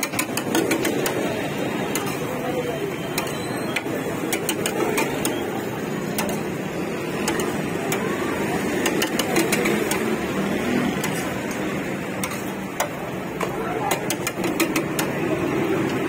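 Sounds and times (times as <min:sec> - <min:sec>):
metal spatula scraping griddle: 0:00.0 - 0:02.4, 0:03.1 - 0:15.4.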